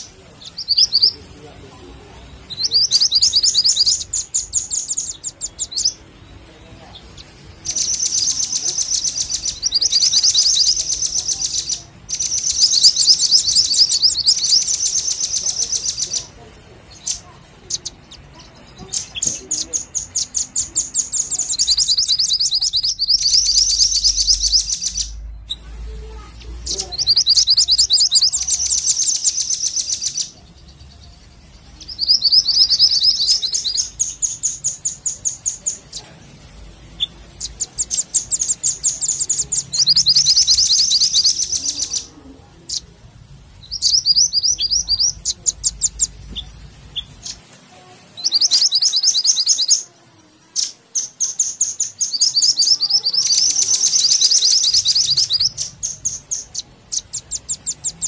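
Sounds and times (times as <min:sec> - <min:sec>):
songbird chipping: 0:00.0 - 0:58.0.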